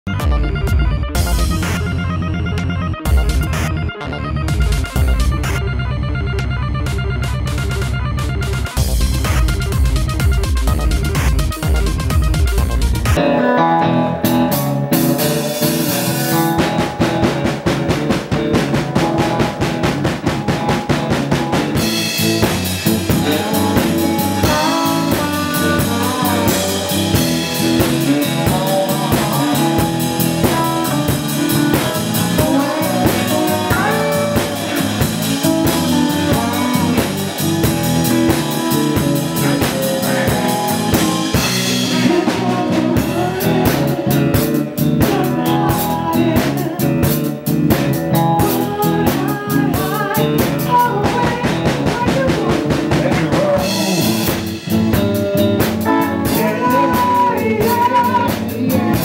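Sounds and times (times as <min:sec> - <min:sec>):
drum kit steady beat: 0:00.1 - 0:02.2, 0:03.0 - 0:03.8, 0:04.5 - 0:05.8, 0:06.4 - 0:13.3, 0:14.0 - 0:59.0
electric guitar: 0:00.1 - 0:59.0.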